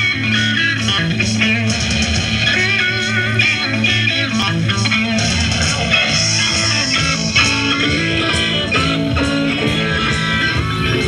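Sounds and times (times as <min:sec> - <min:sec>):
guitar music with bass line: 0:00.0 - 0:11.0.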